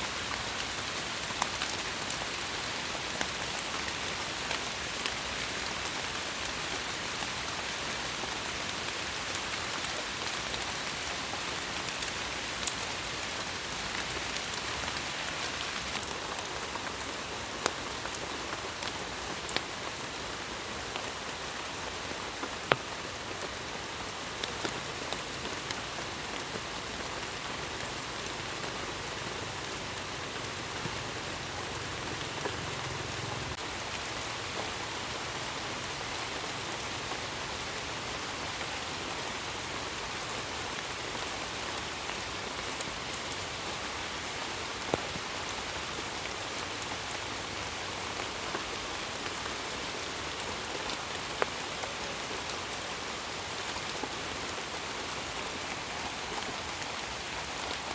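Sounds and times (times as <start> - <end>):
rain on leaves: 0.0 - 57.9.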